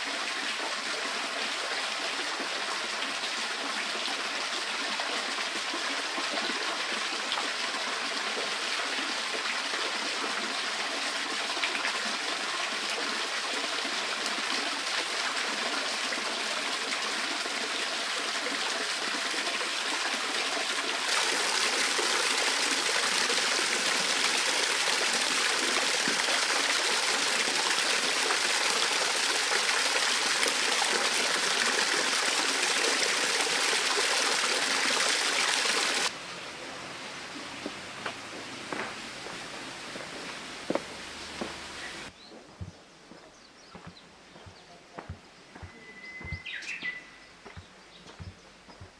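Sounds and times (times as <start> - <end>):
spring water trickling: 1.3 - 36.2, 37.1 - 42.8.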